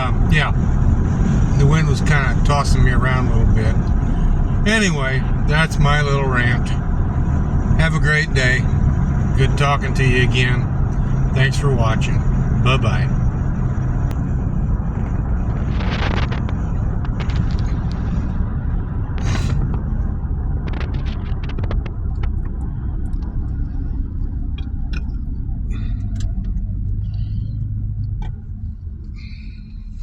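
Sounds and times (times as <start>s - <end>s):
car engine rumbling inside vehicle: 0.0s - 30.0s.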